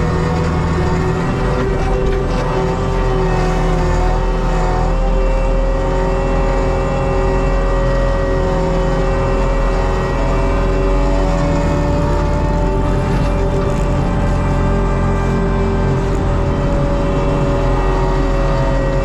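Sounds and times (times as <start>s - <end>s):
loud engine drone: 0.0s - 19.0s
mulcher drum whine: 0.0s - 19.0s.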